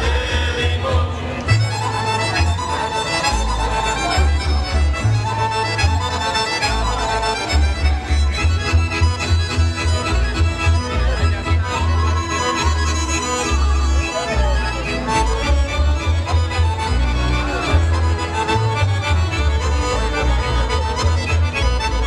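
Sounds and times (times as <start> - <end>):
folk dance music with bass beat: 0.0 - 22.0.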